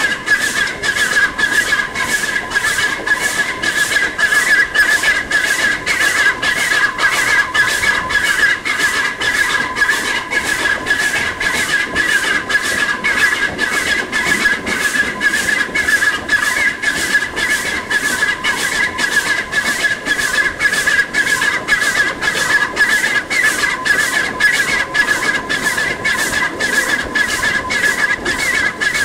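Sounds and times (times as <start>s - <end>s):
steam locomotive exhaust beats: 0.0s - 29.0s
wavering high squeal: 0.0s - 29.0s.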